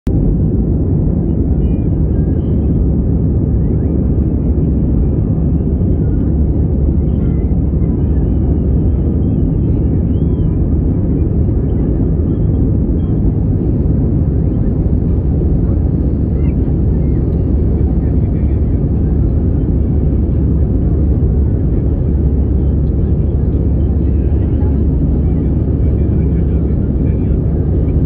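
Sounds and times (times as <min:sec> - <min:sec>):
jet airliner cabin engine rumble: 0:00.1 - 0:28.0.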